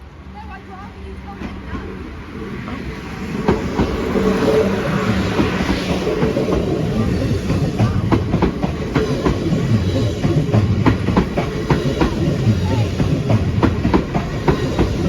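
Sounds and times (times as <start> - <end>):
train rumble: 0.0 - 15.0
wheels clacking over rail joints: 1.2 - 15.0.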